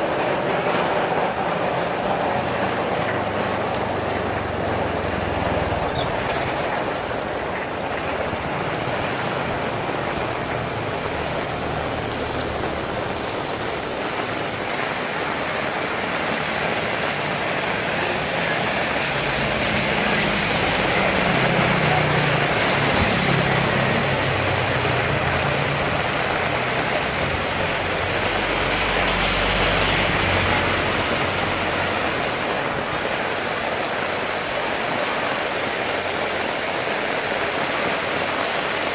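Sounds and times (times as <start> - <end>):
vehicle engine passing: 0.0 - 13.6, 14.2 - 33.0
heavy rain falling: 0.0 - 38.9.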